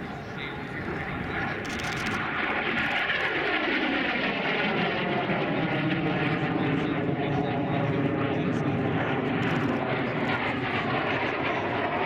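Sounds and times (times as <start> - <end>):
jet engine roaring: 0.0 - 12.0.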